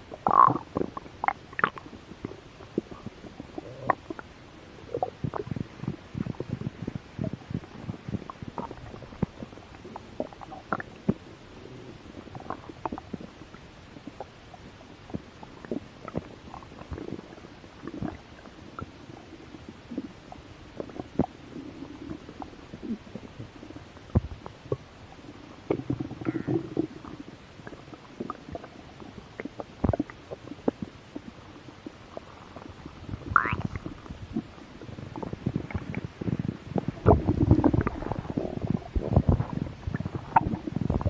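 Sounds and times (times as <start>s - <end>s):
stomach growling and gurgling: 0.0s - 41.0s.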